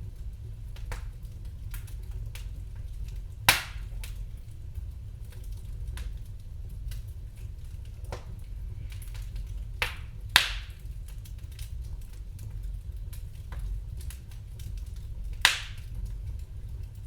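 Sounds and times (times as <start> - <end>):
loud fire cracks: 0.0 - 17.0
low steady fire rumble: 0.0 - 17.0
wood fire crackling: 0.0 - 17.0.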